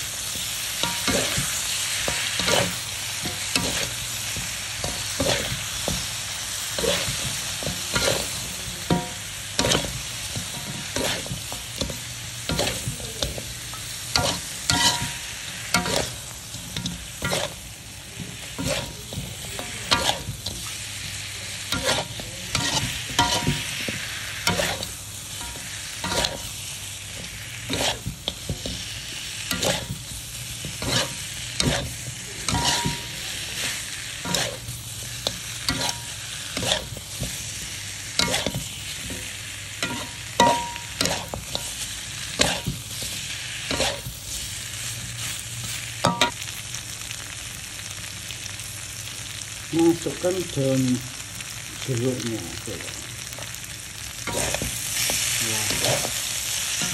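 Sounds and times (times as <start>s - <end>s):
food sizzling in oil: 0.0s - 56.9s
spatula scraping pan: 0.3s - 46.3s, 54.2s - 56.9s.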